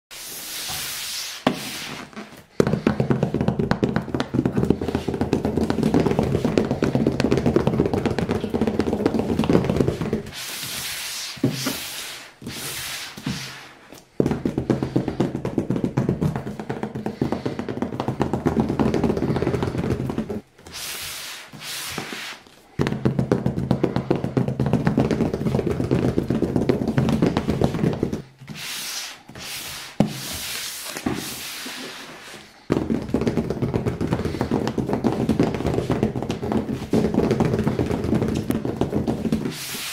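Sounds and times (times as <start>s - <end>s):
fingertips tapping on cardboard box: 2.5s - 10.8s, 12.6s - 20.4s, 22.8s - 32.0s, 32.6s - 39.9s.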